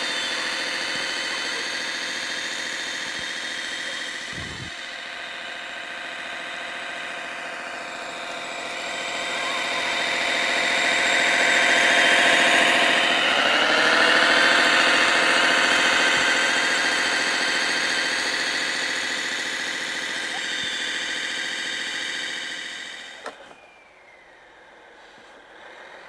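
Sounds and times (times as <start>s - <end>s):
model vehicle engine sound: 0.0s - 26.0s.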